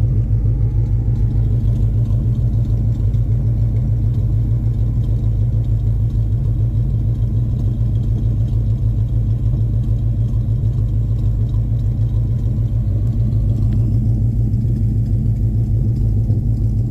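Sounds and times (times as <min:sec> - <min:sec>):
car engine rumbling: 0:00.0 - 0:16.9.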